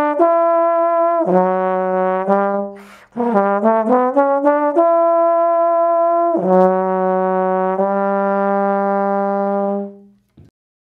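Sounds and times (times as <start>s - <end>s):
trombone sliding between notes: 0.0s - 10.0s.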